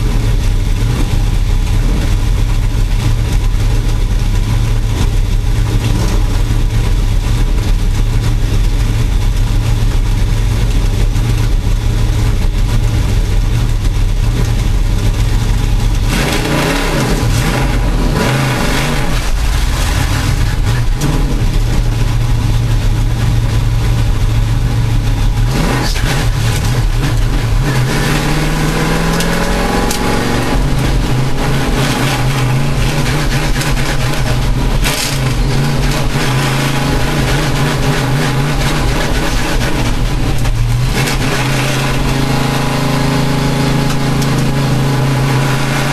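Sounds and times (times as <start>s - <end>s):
race car engine revving: 0.0s - 45.9s.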